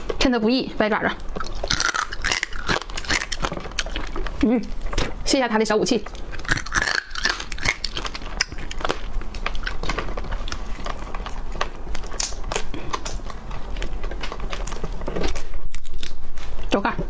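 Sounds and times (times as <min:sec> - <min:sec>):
crab shell cracking: 0:01.2 - 0:05.0, 0:06.1 - 0:16.2.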